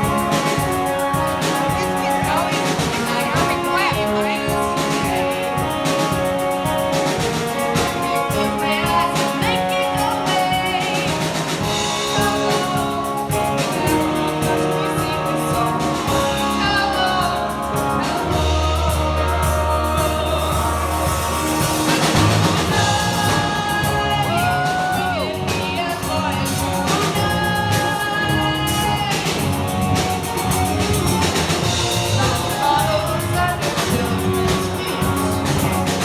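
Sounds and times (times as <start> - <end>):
drum kit: 0.0 - 36.0
guitars: 0.0 - 36.0
person singing: 0.0 - 36.0.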